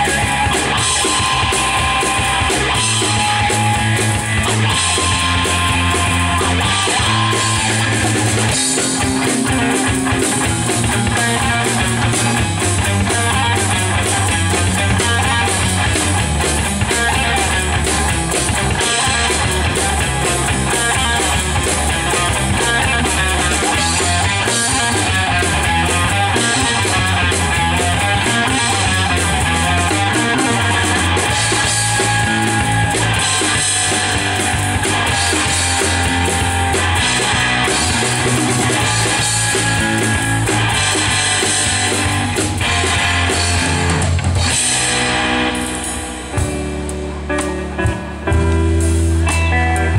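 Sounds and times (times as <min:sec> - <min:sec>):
drum kit: 0:00.0 - 0:49.9
electric bass: 0:00.0 - 0:49.9
electric guitar: 0:00.0 - 0:49.9.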